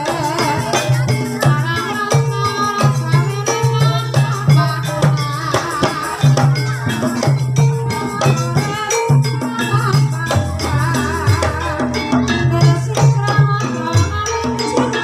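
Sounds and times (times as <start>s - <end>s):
gamelan melodic notes: 0.0s - 15.0s.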